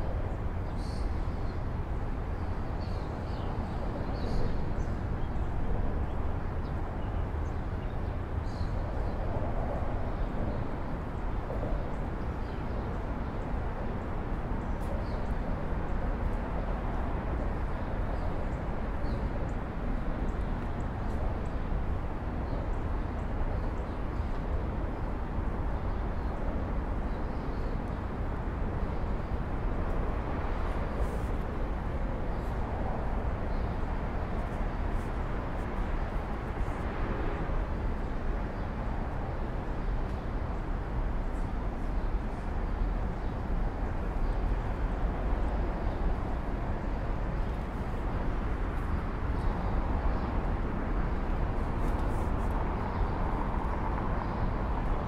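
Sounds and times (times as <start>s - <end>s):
city traffic rumble: 0.0s - 55.0s.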